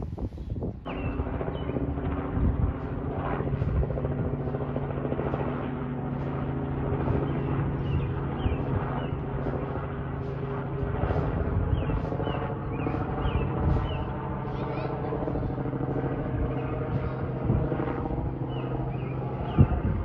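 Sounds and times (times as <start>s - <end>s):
helicopter droning overhead: 0.0s - 20.0s.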